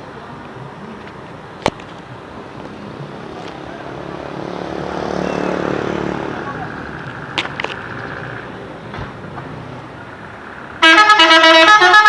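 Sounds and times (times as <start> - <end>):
bus passing: 0.0 - 12.0.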